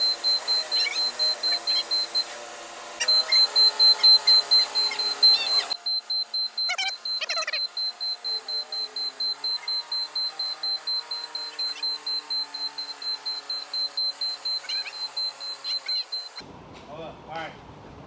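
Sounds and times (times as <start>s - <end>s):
forklift warning beeper: 0.0s - 2.4s, 3.0s - 16.4s
forklift engine running: 0.0s - 16.7s.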